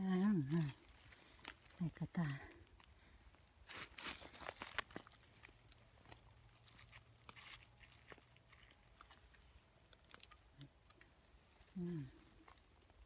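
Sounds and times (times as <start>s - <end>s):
mushrooms crunching and snapping: 0.1s - 13.0s.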